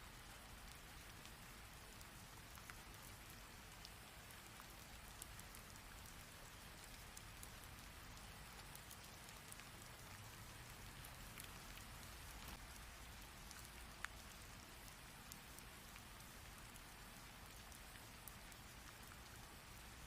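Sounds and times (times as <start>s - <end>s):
rain falling: 0.0s - 20.0s
raindrops ticking: 0.0s - 20.0s.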